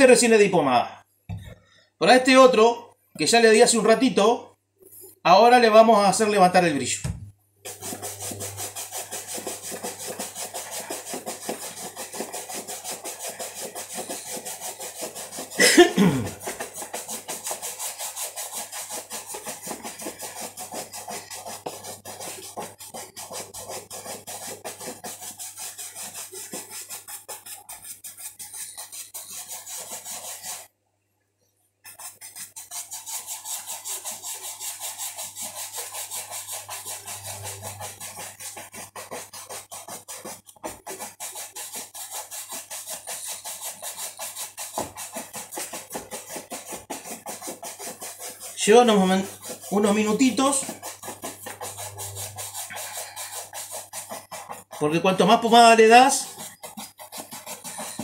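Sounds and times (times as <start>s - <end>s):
shoe brush buffing leather: 7.7s - 30.7s, 31.9s - 58.0s.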